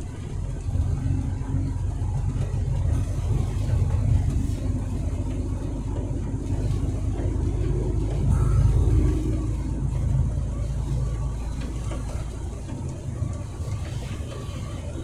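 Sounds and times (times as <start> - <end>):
truck engine driving: 0.0 - 15.0.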